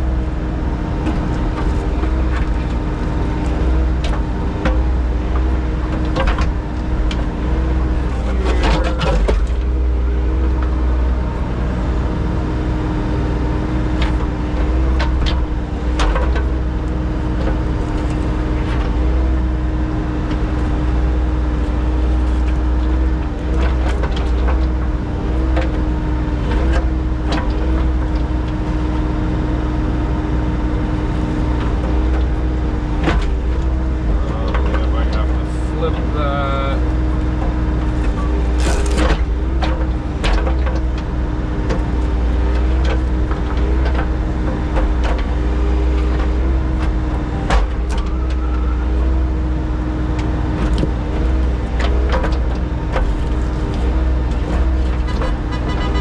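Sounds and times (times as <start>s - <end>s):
earthmoving machine engine running: 0.0s - 56.0s.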